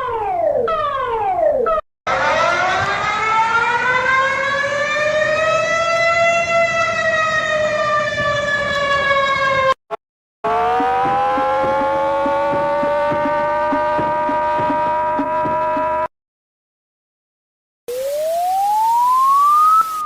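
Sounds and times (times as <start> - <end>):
warning siren wailing: 0.0 - 9.8, 10.4 - 16.1, 17.9 - 20.0.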